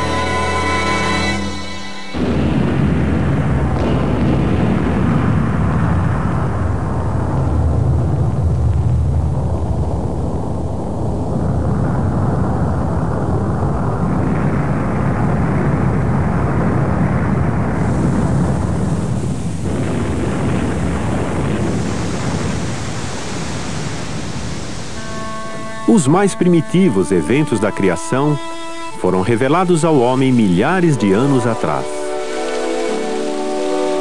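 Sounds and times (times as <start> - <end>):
volcanic eruption roar: 0.0 - 34.0.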